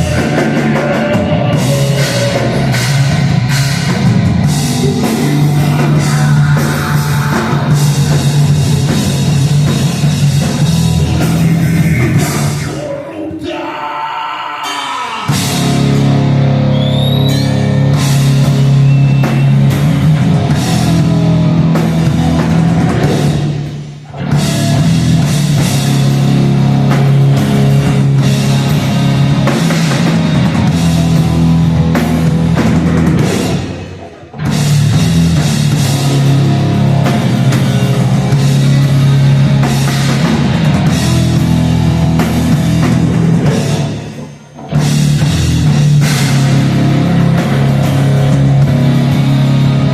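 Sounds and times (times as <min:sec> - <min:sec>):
drums and cymbals: 0:00.0 - 0:13.0, 0:14.6 - 0:49.9
heavy rock band playing: 0:00.0 - 0:49.9.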